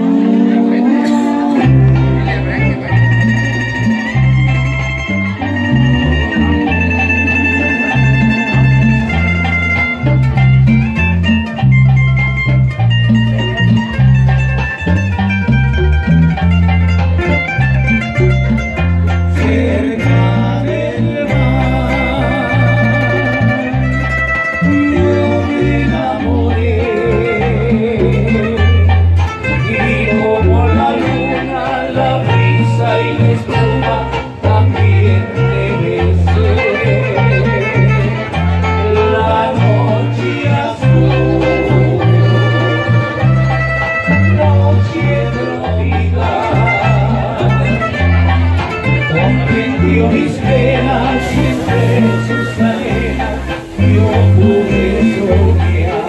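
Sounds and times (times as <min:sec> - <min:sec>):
electric bass walking: 0:00.0 - 0:56.0
electric keyboard: 0:00.0 - 0:56.0
plucked guitar melody: 0:00.0 - 0:56.0.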